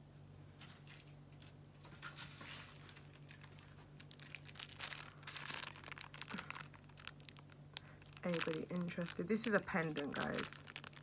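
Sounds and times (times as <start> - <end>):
plastic packaging crinkling: 2.0 - 11.0.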